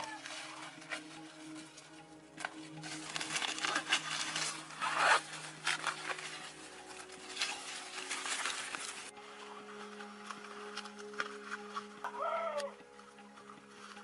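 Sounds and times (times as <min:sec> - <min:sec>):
scraping and rubbing noises: 0:00.0 - 0:14.0.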